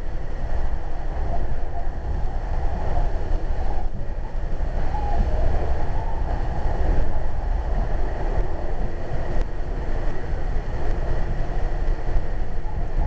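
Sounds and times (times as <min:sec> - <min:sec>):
train running low rumble: 0:00.0 - 0:13.0.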